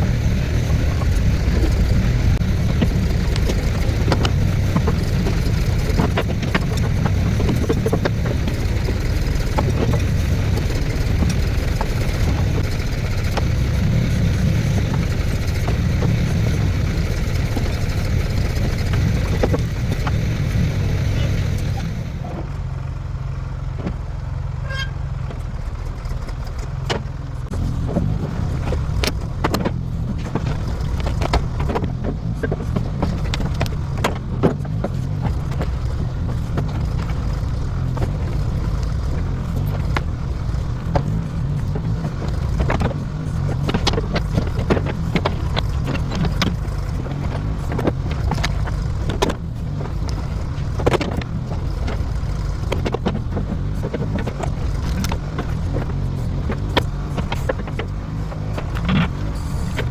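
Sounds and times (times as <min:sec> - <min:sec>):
clanks and knocks: 0:00.0 - 0:20.8, 0:24.7 - 0:59.9
backhoe diesel engine running: 0:00.0 - 0:59.9.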